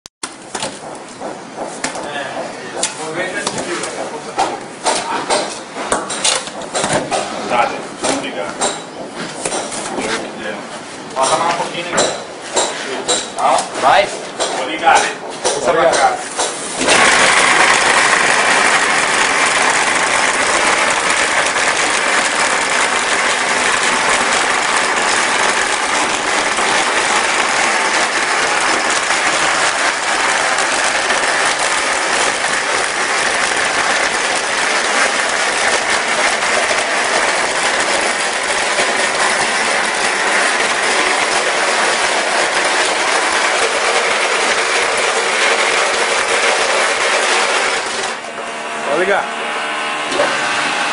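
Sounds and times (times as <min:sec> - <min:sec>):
plastering machine running: 0:00.2 - 0:50.9.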